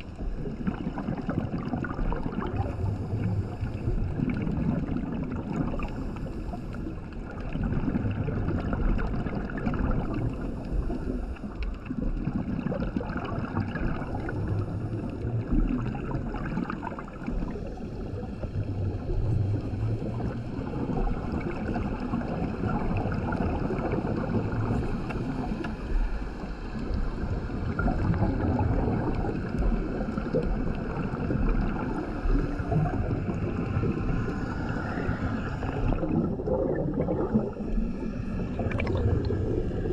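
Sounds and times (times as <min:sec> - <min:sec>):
bubbling exhalations: 0:00.2 - 0:39.9.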